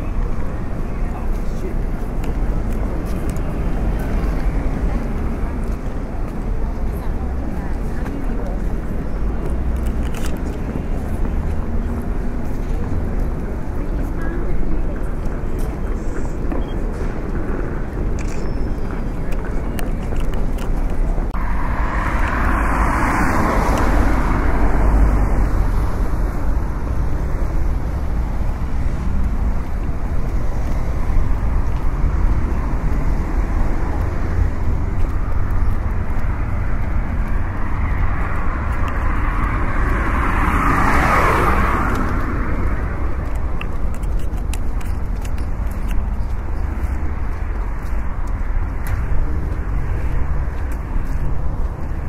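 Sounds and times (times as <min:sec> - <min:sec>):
cars passing by: 0:00.0 - 0:52.0
low traffic rumble: 0:00.0 - 0:52.0.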